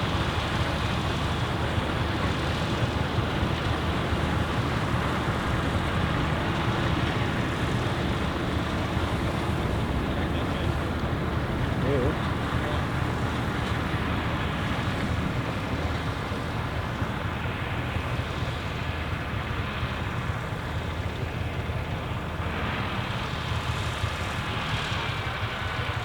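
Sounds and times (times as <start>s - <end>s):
combine threshing machinery noise: 0.0s - 26.0s
tractor diesel engine running: 0.0s - 26.0s.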